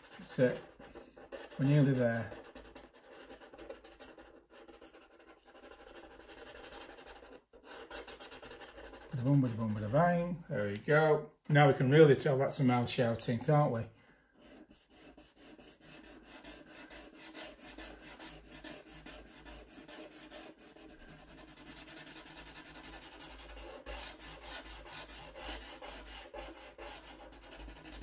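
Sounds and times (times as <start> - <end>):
marker scribbling on paper: 0.0 - 10.1, 14.4 - 28.0.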